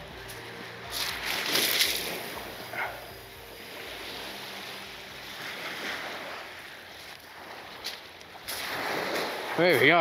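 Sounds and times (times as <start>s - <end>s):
wind: 0.0s - 10.0s
sea washing on shore: 0.9s - 10.0s.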